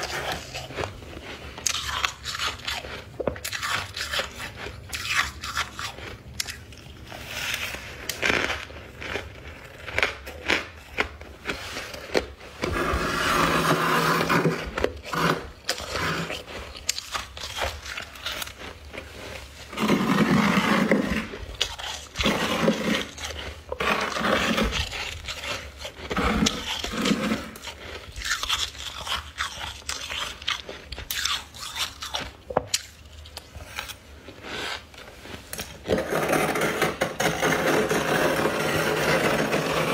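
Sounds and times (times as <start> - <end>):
ice crunching being chewed: 0.0 - 35.9
gritty grinding: 0.0 - 39.9.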